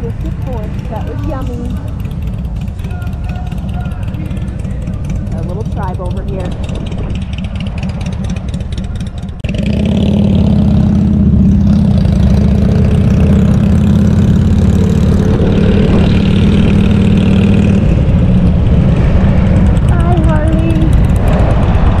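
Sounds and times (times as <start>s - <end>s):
motorcycle engine revving away: 0.0s - 22.0s
motorcycle engines idling: 0.0s - 22.0s.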